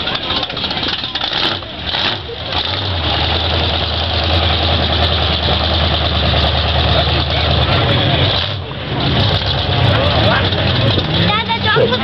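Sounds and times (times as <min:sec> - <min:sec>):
pickup truck engine droning: 0:00.0 - 0:12.0.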